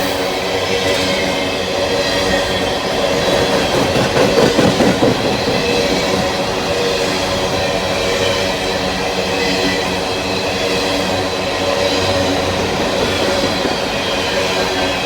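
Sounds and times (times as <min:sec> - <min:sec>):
steady ringing hum from train: 0:00.0 - 0:15.0
train wheels clicking over rail joints: 0:00.0 - 0:15.0.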